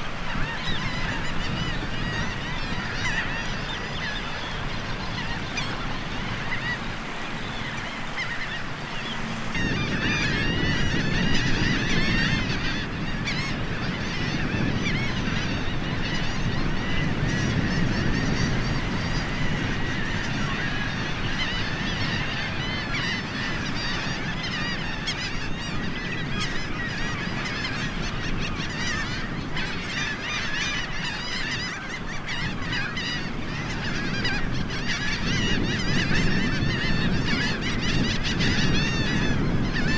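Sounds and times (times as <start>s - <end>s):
flock of shorebirds calling: 0.0s - 39.9s.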